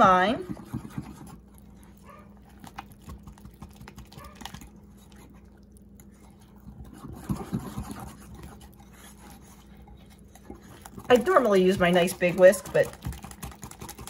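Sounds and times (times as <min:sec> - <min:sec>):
whisk beating batter in bowl: 0:00.0 - 0:14.0.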